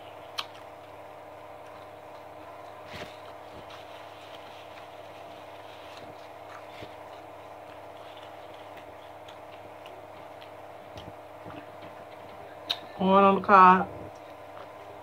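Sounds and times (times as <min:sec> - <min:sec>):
person chewing: 0:00.0 - 0:13.0, 0:14.1 - 0:15.0
steady background hum: 0:00.0 - 0:15.0.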